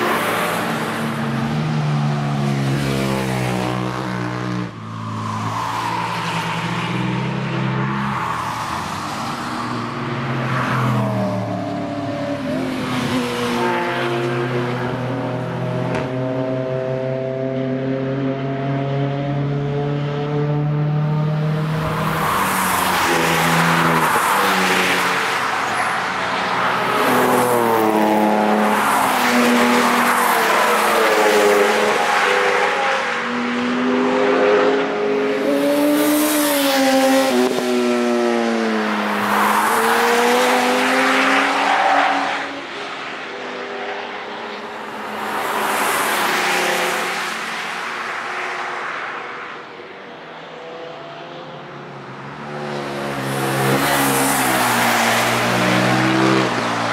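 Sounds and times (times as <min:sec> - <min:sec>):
racing cars passing by: 0:00.0 - 0:56.9.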